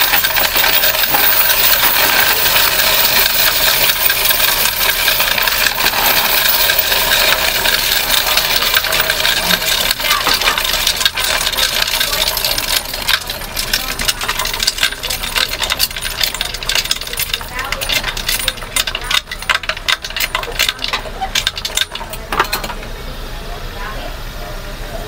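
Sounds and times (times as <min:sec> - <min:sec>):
coin-counting machine clatter: 0:00.0 - 0:22.8.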